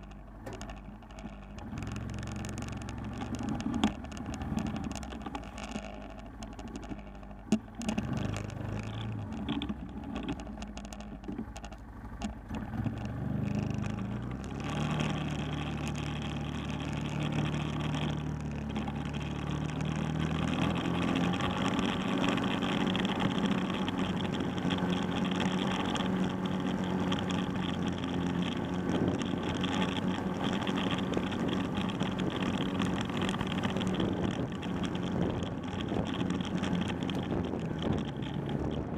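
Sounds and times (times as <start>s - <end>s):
quad bike engine running: 0.0s - 38.9s
tyre and wind noise: 0.0s - 38.9s.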